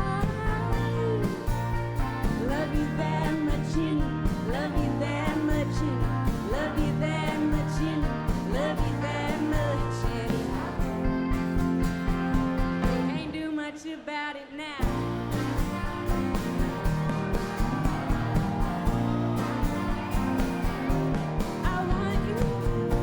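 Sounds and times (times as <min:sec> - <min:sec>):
live band playing country-rock: 0:00.0 - 0:13.4, 0:14.8 - 0:23.0.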